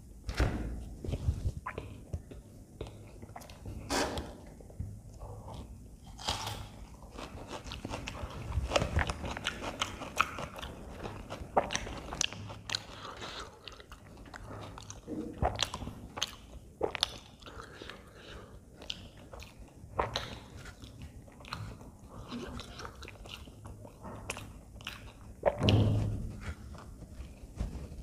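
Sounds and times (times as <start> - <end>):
person chewing flatbread: 1.0 - 28.0.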